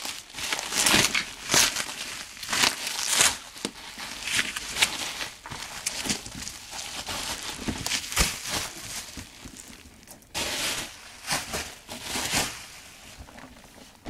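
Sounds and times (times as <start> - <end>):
cardboard rustling and scraping: 0.0 - 14.0.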